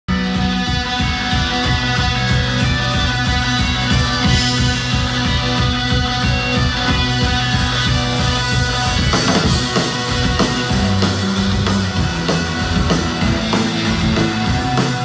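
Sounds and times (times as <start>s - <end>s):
bass guitar: 0.1s - 15.0s
electric guitars: 0.1s - 15.0s
fast drumbeat: 0.1s - 15.0s.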